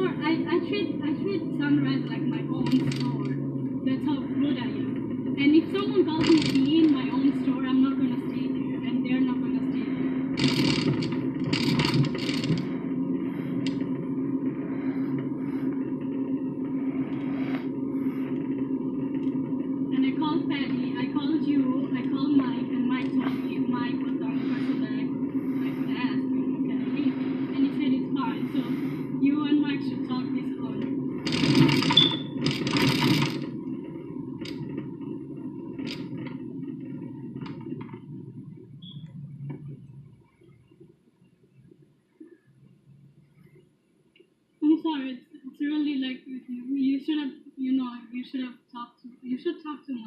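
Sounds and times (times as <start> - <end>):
truck engine and road rumble: 0.0 - 40.4
low hum: 0.0 - 50.0.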